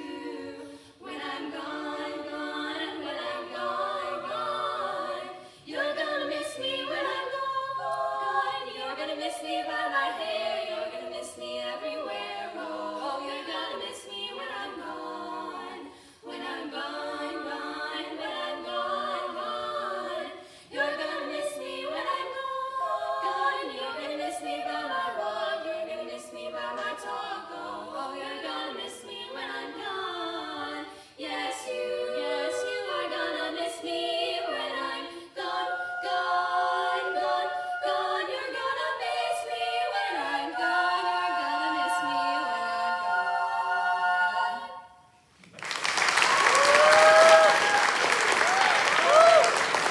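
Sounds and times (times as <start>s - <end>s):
female vocal quartet singing: 0.0s - 45.3s, 46.3s - 49.9s.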